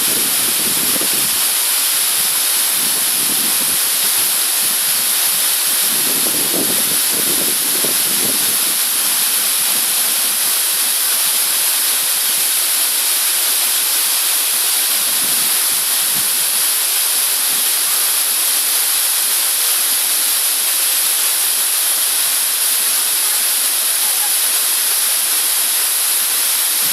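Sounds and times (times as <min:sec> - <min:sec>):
rushing water: 0:00.0 - 0:26.9.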